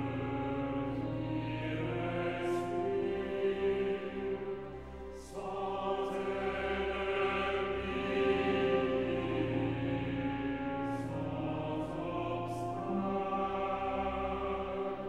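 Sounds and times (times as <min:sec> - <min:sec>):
choir singing sustained chords: 0:00.0 - 0:15.0
low orchestral bass: 0:00.0 - 0:15.0.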